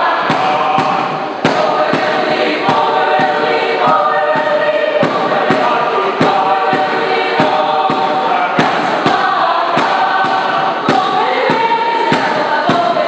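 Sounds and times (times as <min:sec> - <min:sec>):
choir singing in parts: 0:00.0 - 0:13.0
sharp percussive strikes: 0:00.0 - 0:13.0.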